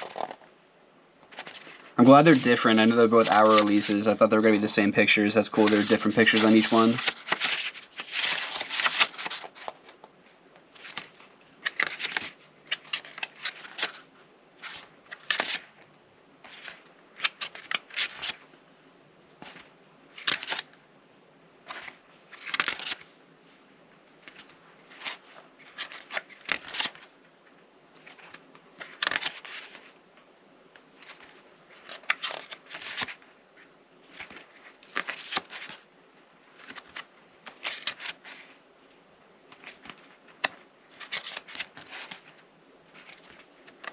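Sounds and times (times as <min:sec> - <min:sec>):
paper pages being turned: 0:00.0 - 0:00.5, 0:01.3 - 0:10.1, 0:10.7 - 0:18.5, 0:19.4 - 0:20.8, 0:21.6 - 0:23.1, 0:24.2 - 0:30.0, 0:30.7 - 0:35.9, 0:36.5 - 0:38.6, 0:39.5 - 0:43.9.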